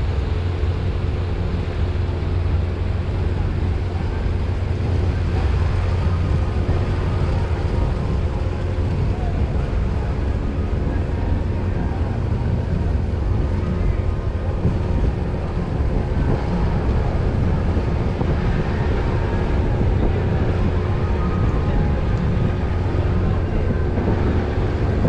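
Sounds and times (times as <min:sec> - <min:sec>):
ship engines rumbling: 0:00.0 - 0:25.0.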